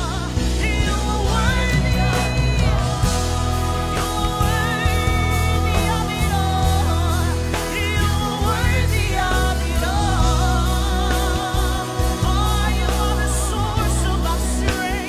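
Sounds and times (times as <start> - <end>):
band with heavy bass and drums: 0.0 - 15.0
person singing with vibrato: 0.0 - 15.0.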